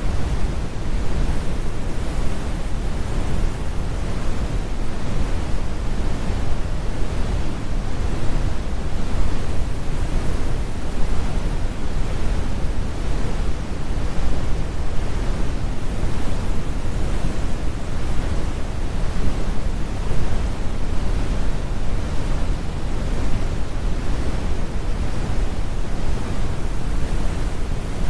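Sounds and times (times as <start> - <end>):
brown noise rumble: 0.0 - 28.0.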